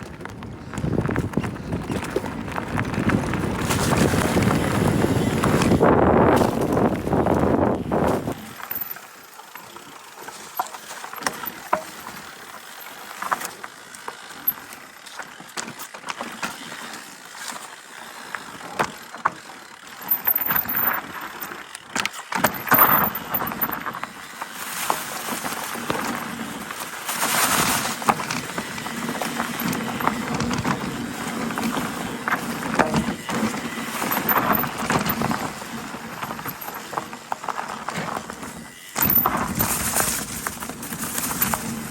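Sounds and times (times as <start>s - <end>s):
bike clicks and rattles: 0.0s - 41.9s
tyres on dirt trail: 0.0s - 41.9s.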